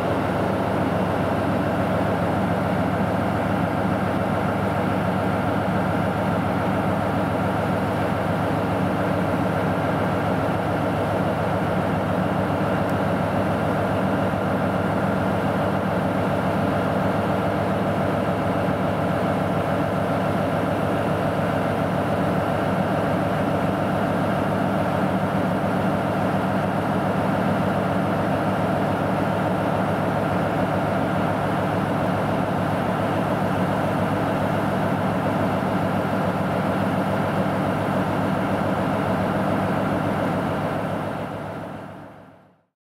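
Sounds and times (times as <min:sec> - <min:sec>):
diesel locomotive idling: 0:00.0 - 0:42.5.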